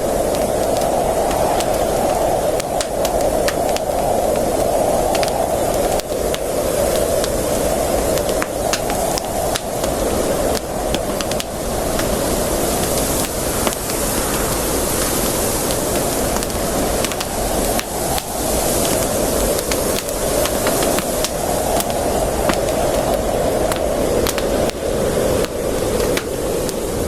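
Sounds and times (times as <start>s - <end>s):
campfire crackling: 0.0s - 27.0s
steady rushing hiss: 0.0s - 27.0s.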